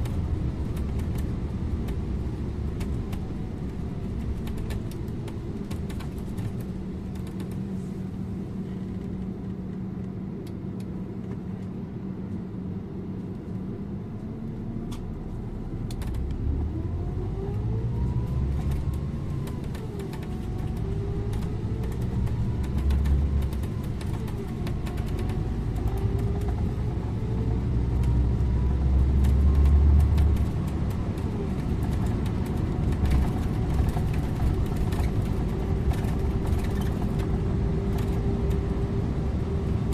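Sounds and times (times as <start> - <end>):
bus engine accelerating: 0.0 - 39.9.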